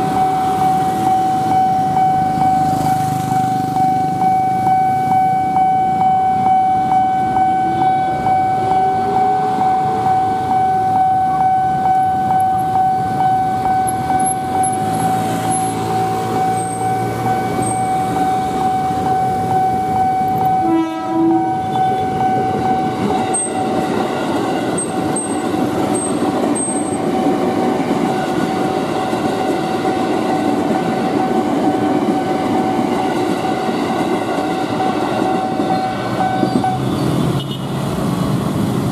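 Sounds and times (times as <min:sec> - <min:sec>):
level crossing alarm tone: 0:00.0 - 0:33.1
electric train rumbling: 0:00.0 - 0:38.9.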